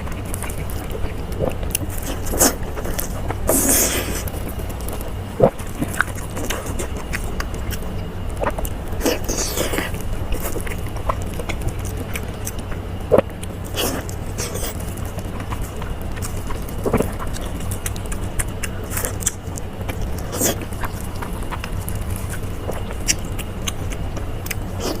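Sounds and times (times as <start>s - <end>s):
person biting and chewing food: 0.0s - 25.0s
steady low hum: 0.0s - 25.0s.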